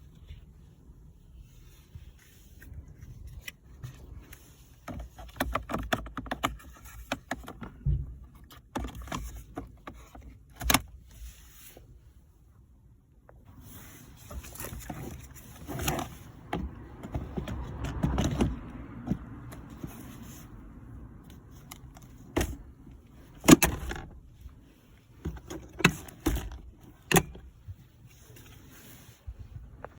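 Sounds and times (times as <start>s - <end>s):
rustling and handling of parts: 0.0s - 29.9s.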